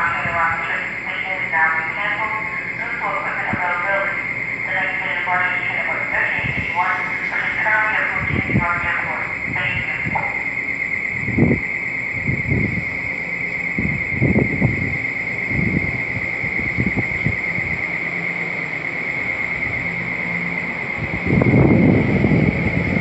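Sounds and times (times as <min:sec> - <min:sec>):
high-pitched pulsing trill: 0:00.0 - 0:23.0
train rumbling and knocking: 0:00.0 - 0:23.0.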